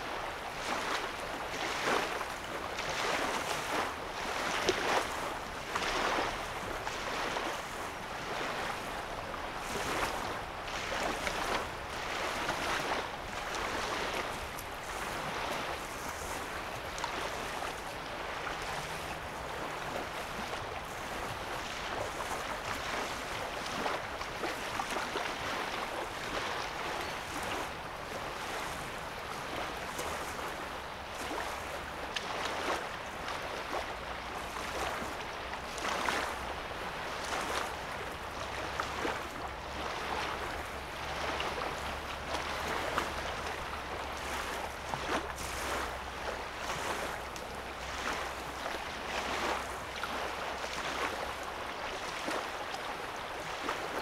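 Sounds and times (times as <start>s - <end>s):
water lapping at shoreline: 0.0s - 54.0s.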